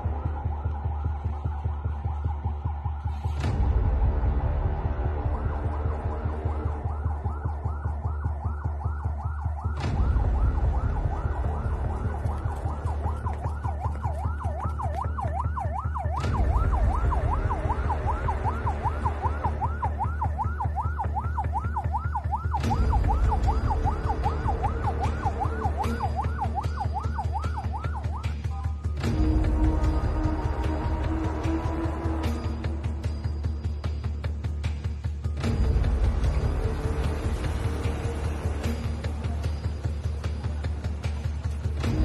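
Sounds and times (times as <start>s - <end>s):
emergency siren yelping: 0.0s - 42.0s.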